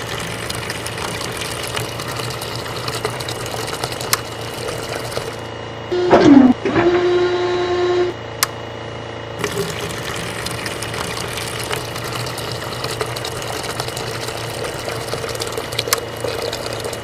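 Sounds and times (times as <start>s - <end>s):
small motor running with rattle: 0.0s - 7.2s, 9.3s - 17.0s.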